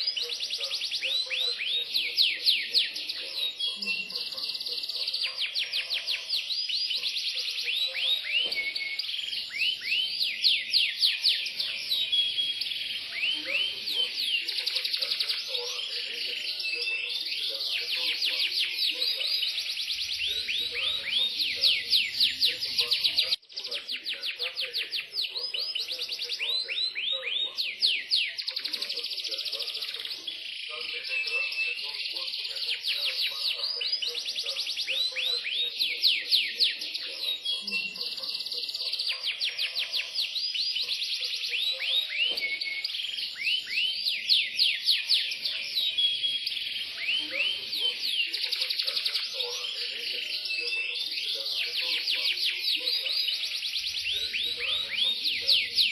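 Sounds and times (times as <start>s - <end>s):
canary singing in fast trills: 0.0s - 55.9s.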